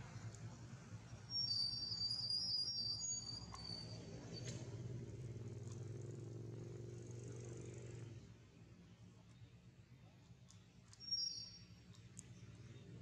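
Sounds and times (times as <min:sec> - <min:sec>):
distant vehicle engine hum: 0:00.0 - 0:13.0.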